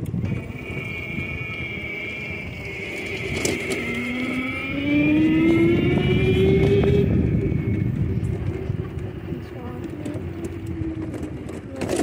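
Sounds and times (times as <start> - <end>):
go-kart motor running: 0.0 - 12.0.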